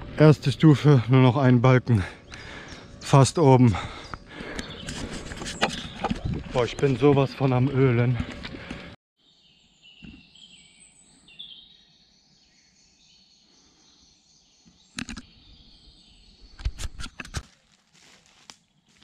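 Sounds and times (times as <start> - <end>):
woodland birds singing: 0.2 - 16.9.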